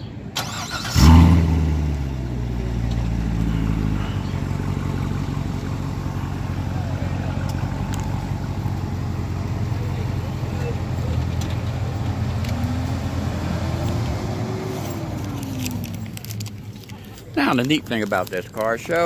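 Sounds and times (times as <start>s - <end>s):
car engine starting and idling: 0.0s - 19.0s.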